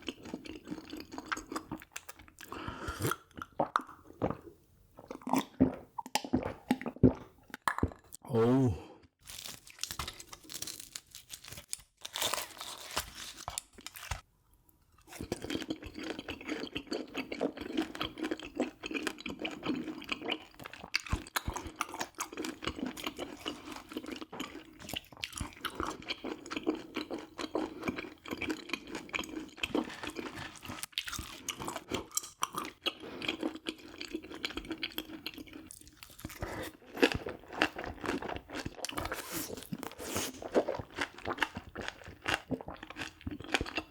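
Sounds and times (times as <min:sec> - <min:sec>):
person chewing crunchy food: 0:00.0 - 0:14.2, 0:15.0 - 0:43.9.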